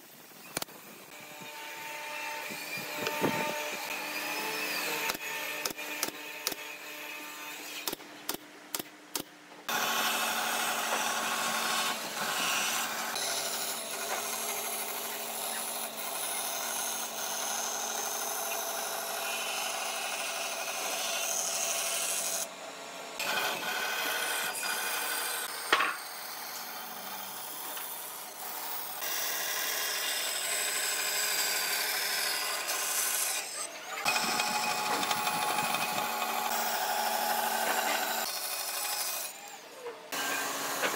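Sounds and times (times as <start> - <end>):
band saw cutting wood: 1.1 - 8.0, 9.7 - 40.9.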